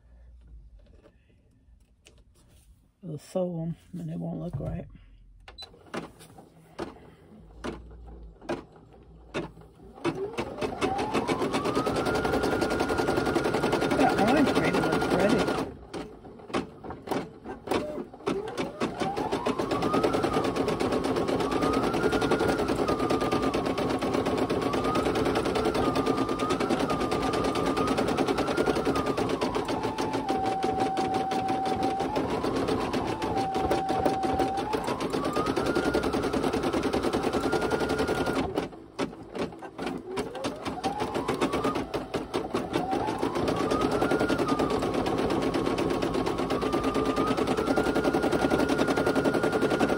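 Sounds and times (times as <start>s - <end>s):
embroidery machine stitching: 5.7s - 49.9s.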